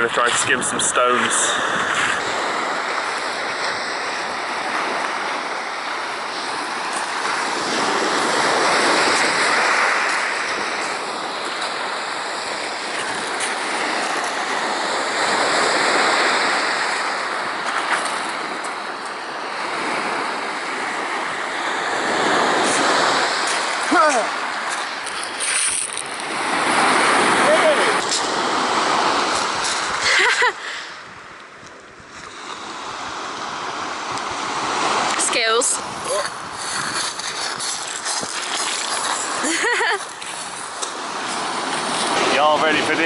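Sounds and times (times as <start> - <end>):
waves breaking on shingle beach: 0.0 - 43.0
wind on microphone: 0.0 - 43.0.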